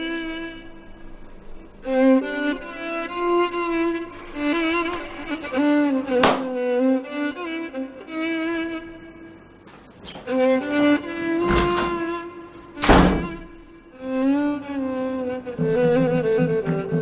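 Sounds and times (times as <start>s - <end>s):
sustained bowed strings: 0.0s - 9.6s, 10.3s - 17.0s.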